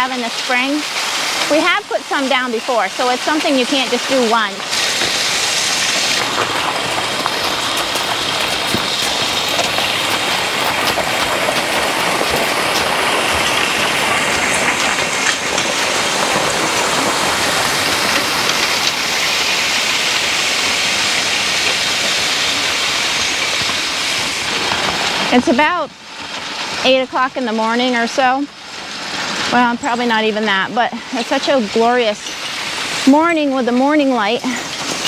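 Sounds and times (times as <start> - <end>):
harrow dragging over gravel: 0.0 - 35.0.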